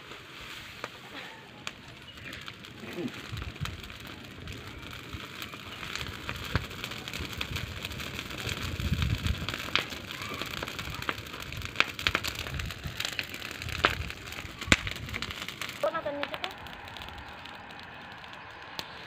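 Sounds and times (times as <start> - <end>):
fire crackling and snapping: 0.0 - 19.0
fire hissing: 0.0 - 19.0.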